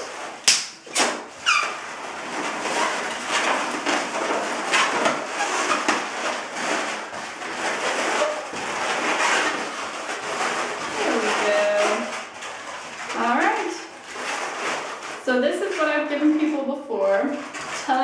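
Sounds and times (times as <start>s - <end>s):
balloons squeaking and rubbing: 0.0s - 18.0s.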